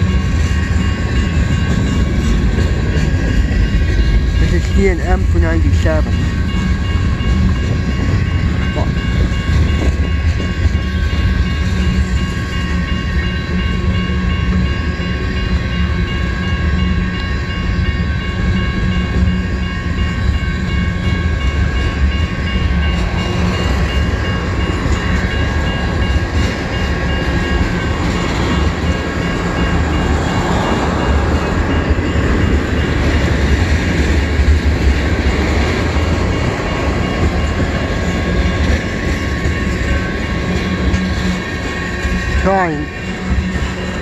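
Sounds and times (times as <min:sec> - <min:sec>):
crossing signal bell ringing: 0:00.0 - 0:44.0
freight train wheels clattering on rails: 0:00.0 - 0:44.0.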